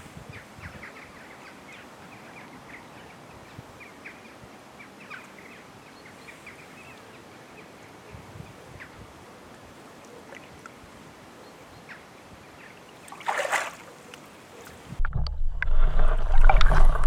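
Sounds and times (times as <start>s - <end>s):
soft steady hiss: 0.0s - 16.2s
small birds chirping: 0.1s - 9.1s, 10.0s - 14.8s.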